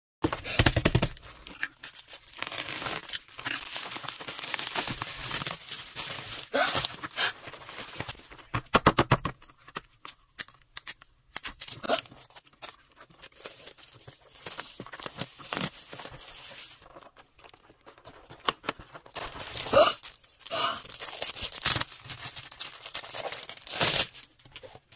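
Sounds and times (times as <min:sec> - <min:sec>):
bubble wrap crackling: 0:00.5 - 0:08.5, 0:10.8 - 0:24.9
plastic crinkling and tearing: 0:00.6 - 0:08.5, 0:09.7 - 0:24.9.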